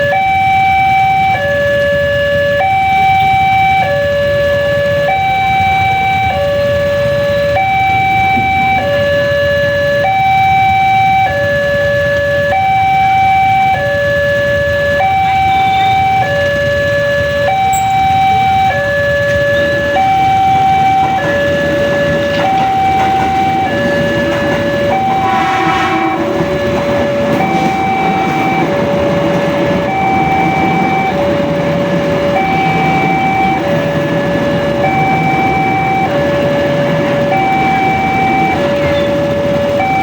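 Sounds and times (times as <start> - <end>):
approaching train rumble: 0.0 - 40.0
two-tone crossing alarm: 0.0 - 40.0.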